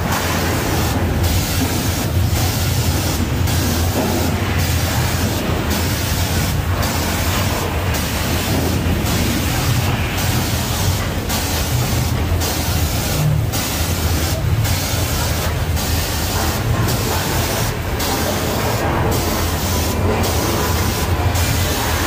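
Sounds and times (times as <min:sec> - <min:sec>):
continuous low rumble: 0:00.0 - 0:22.0
loud hiss: 0:00.0 - 0:22.0.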